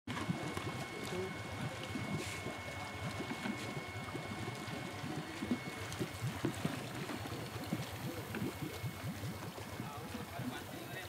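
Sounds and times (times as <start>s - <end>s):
air bubbling through water: 0.1s - 10.7s.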